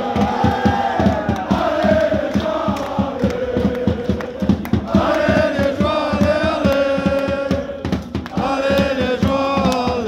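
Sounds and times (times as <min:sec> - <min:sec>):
crowd chanting a song: 0:00.0 - 0:10.0
steady drum beat: 0:00.0 - 0:10.0.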